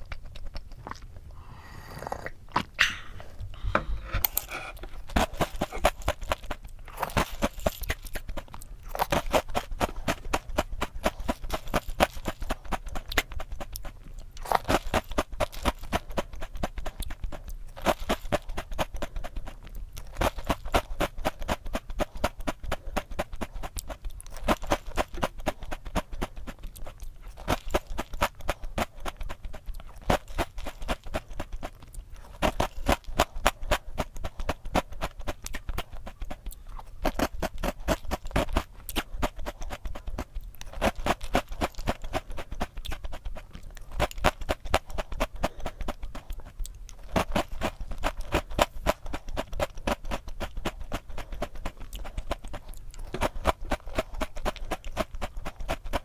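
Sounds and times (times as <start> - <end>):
cereal being chewed crunchily: 0.0 - 56.0.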